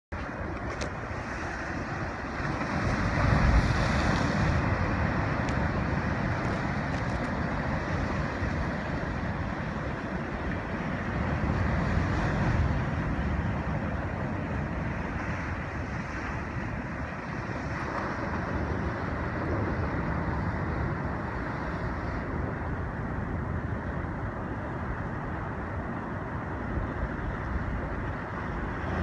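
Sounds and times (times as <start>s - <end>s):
wind buffeting microphone: 0.1s - 29.0s
surf breaking over rocks: 0.2s - 29.0s.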